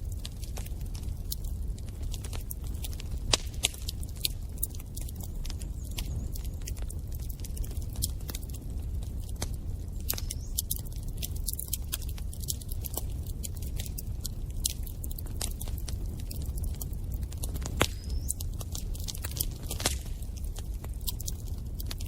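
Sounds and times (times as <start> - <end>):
burning wood crackling and popping: 0.0 - 22.0
low rumble of flames: 0.0 - 22.0.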